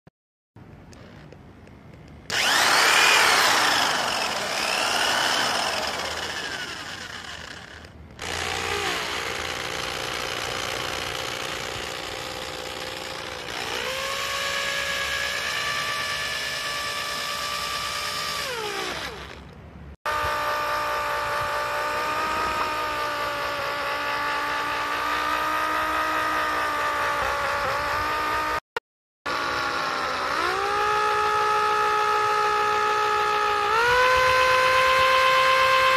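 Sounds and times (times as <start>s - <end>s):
electric drill motor whining: 2.3s - 28.6s, 29.3s - 35.9s.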